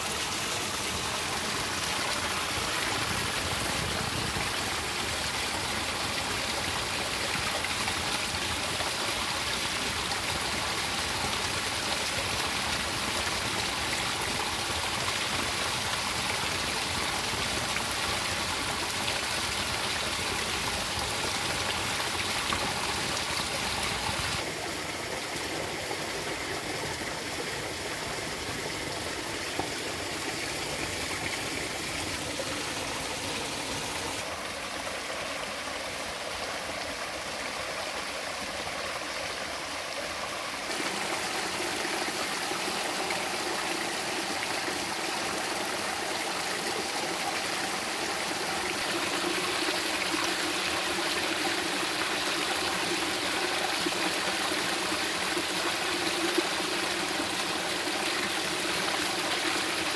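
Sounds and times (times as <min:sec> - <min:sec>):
stream water over rocks: 0:00.0 - 0:59.9
water splashing in small cascade: 0:00.0 - 0:59.9.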